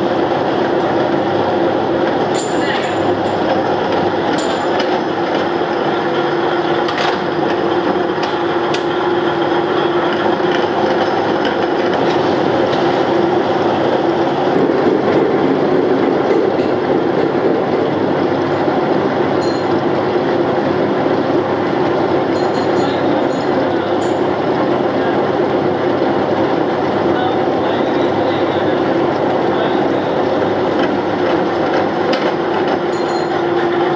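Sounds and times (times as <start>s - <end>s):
machine hum: 0.0s - 33.9s.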